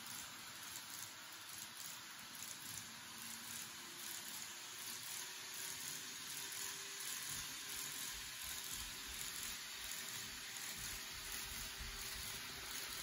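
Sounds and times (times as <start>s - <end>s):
faint motor hum: 0.0s - 13.0s
model train hissing on track: 0.0s - 13.0s.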